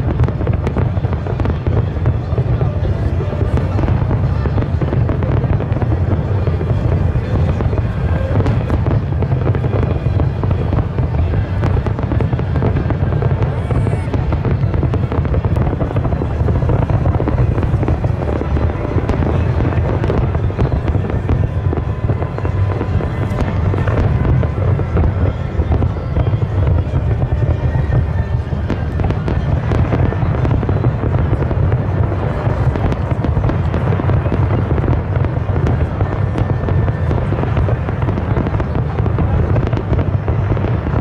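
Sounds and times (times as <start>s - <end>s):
fireworks booming: 0.0s - 41.0s
fireworks crackling: 0.0s - 41.0s.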